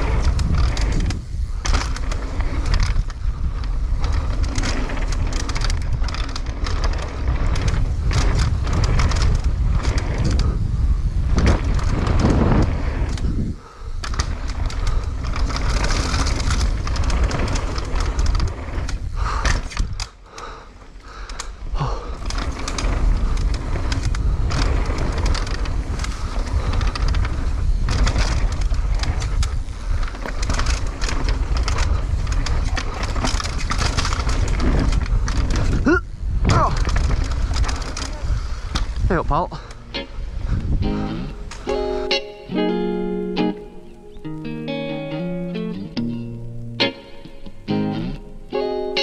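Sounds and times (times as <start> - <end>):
wind on microphone: 0.0 - 20.2, 21.1 - 43.0
bike rattling and clatter: 0.0 - 43.9
bike tyres on loose dirt: 0.0 - 49.0.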